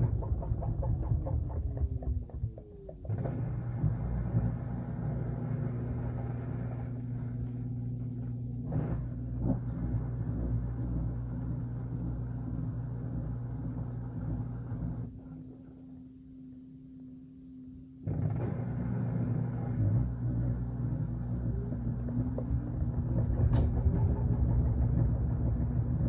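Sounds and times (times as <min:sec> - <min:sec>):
washing machine hum: 0:00.0 - 0:26.0.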